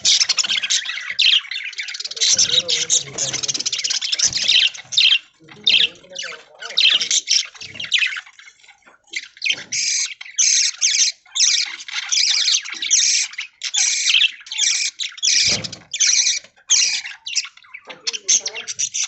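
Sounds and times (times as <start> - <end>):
budgerigars chattering and squawking: 0.0 - 19.0.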